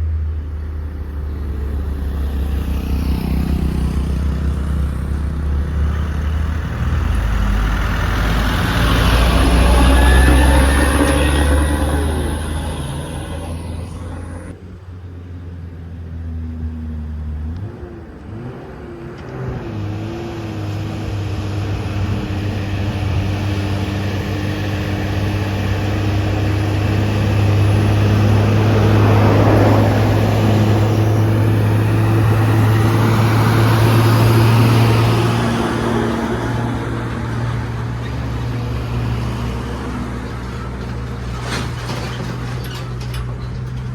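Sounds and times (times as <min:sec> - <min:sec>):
truck engine labouring uphill: 0:00.0 - 0:43.9.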